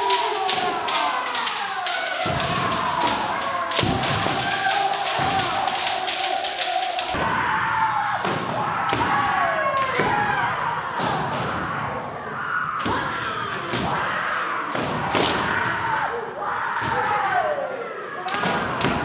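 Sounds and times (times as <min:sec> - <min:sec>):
people shouting: 0:00.0 - 0:19.0.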